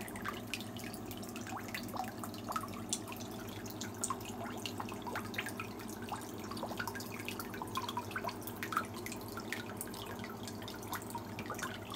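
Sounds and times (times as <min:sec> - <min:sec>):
water dripping into a tank: 0:00.0 - 0:11.9.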